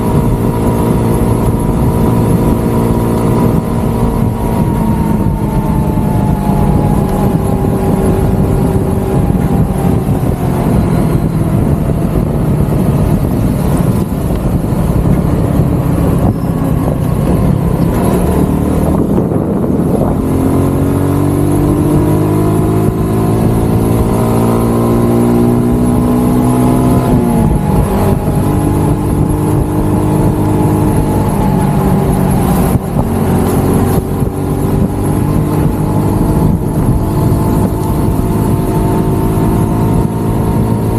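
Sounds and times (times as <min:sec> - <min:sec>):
motorcycle engine running: 0:00.0 - 0:40.9
wind and road rush: 0:00.0 - 0:40.9.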